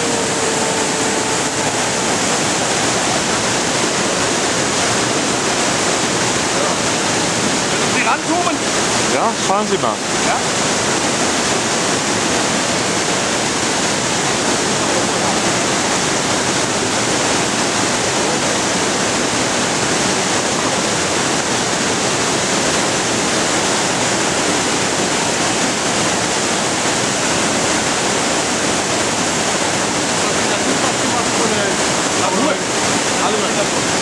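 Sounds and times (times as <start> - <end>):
waterfall rushing over rocks: 0.0 - 34.0.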